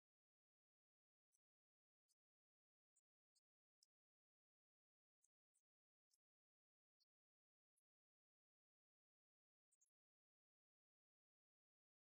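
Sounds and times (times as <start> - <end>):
faint clicks: 0.0 - 12.0.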